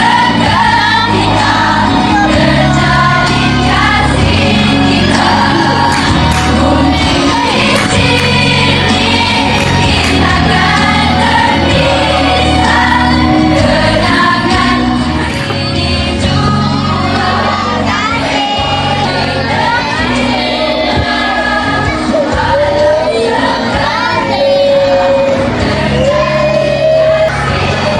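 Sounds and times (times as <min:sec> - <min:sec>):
backing music with bass: 0:00.0 - 0:27.9
voices singing: 0:00.0 - 0:27.9.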